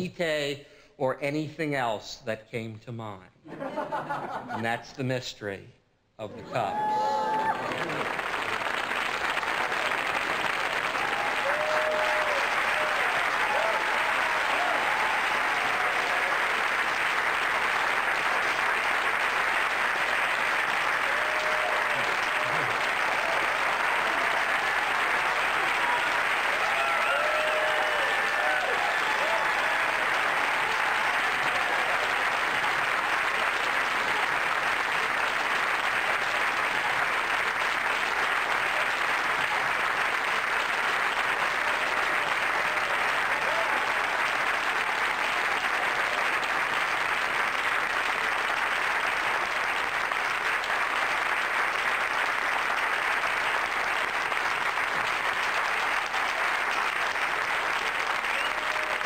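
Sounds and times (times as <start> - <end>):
audience applauding: 6.4 - 59.0.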